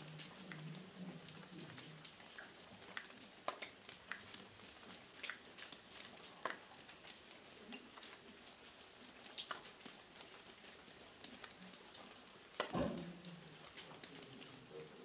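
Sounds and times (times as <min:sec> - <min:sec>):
light rain falling: 0:00.0 - 0:15.0
water dripping from roof edge: 0:00.0 - 0:15.0.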